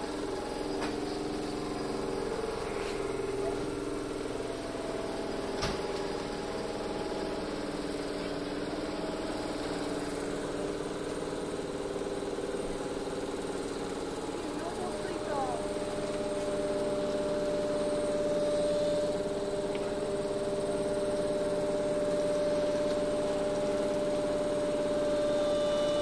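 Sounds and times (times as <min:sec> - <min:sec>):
electric train machinery hum: 0:00.0 - 0:26.0.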